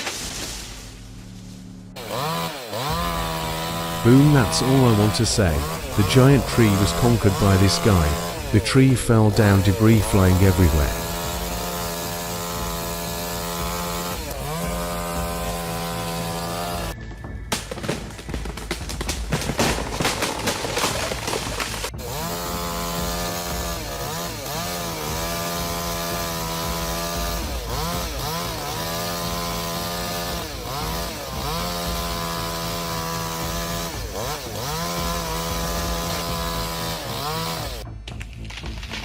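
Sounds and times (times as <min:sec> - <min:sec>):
chainsaw running at high revs: 0:02.0 - 0:17.0, 0:18.3 - 0:38.0.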